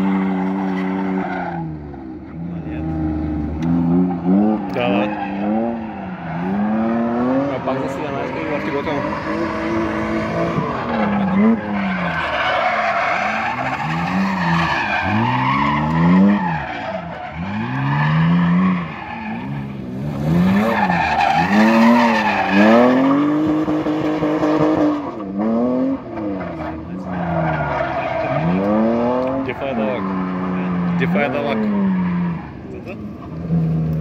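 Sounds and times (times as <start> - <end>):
tyres squealing on asphalt: 0.0 - 33.9
car engine revving: 0.0 - 34.0.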